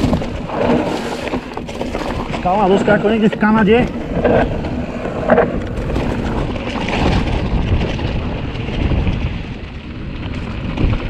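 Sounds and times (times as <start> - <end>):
bike clicks and rattles: 0.0 - 11.0
tyres rumbling over rock: 0.0 - 11.0
wind buffeting microphone: 0.0 - 11.0.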